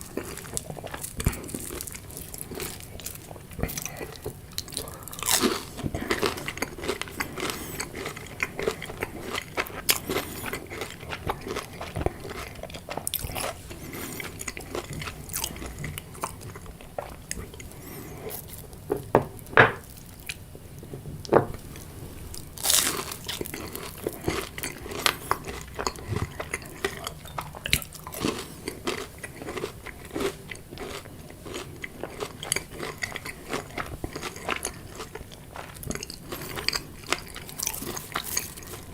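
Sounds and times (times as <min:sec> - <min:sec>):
person chewing crunchy food: 0:00.0 - 0:20.5, 0:21.5 - 0:38.9.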